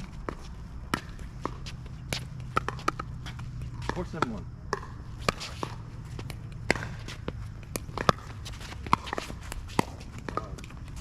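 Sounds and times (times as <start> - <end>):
footsteps on court: 0.0 - 11.0
paddles striking ball: 0.2 - 11.0.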